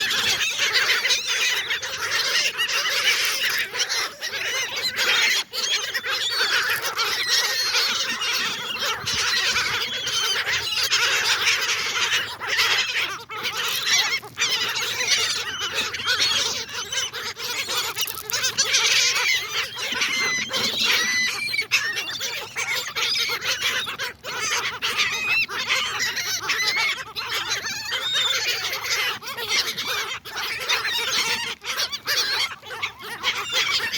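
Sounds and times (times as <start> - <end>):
gulls calling: 0.0 - 33.9.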